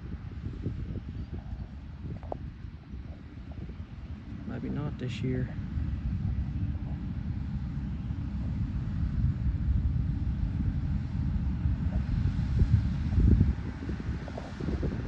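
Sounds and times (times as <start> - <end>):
tractor and baler engines rumbling: 0.0 - 15.0.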